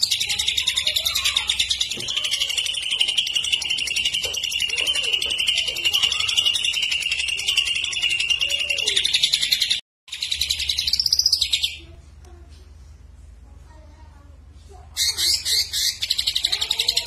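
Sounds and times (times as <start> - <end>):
bird singing a trilling song: 0.0 - 11.8, 15.0 - 17.0.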